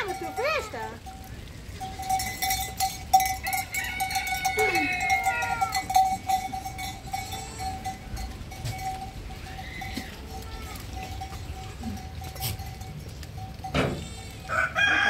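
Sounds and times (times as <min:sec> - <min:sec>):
metal livestock bells clinking: 0:00.0 - 0:15.0.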